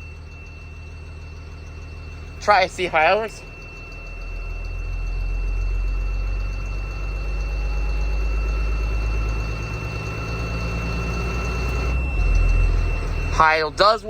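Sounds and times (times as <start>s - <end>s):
bus diesel engine idling: 0.0s - 14.0s
steady high-pitched tone: 0.0s - 14.0s.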